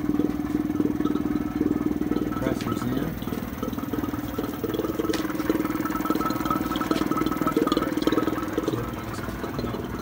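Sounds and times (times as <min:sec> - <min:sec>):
steady whine: 0:00.0 - 0:10.0
vacuum pump pulsing: 0:00.0 - 0:10.0.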